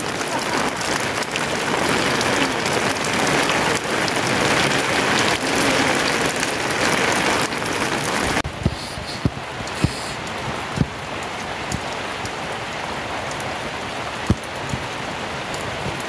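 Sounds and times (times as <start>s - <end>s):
heavy rain hissing: 0.0s - 16.0s
low water drips: 0.0s - 16.0s.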